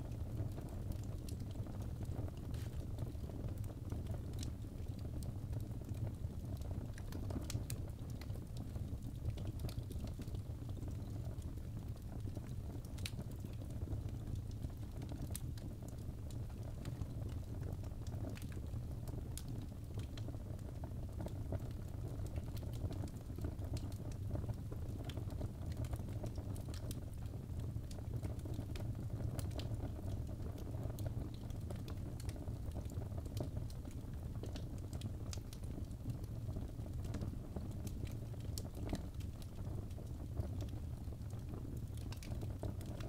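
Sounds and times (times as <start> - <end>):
fire crackling and popping: 0.0 - 43.0.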